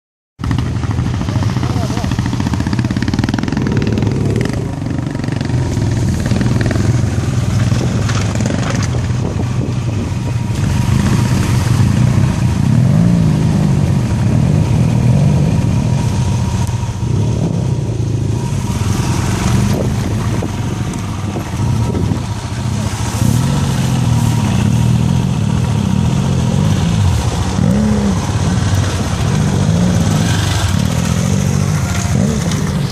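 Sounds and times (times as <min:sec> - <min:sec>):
motorcycle engine revving: 0:00.4 - 0:32.9.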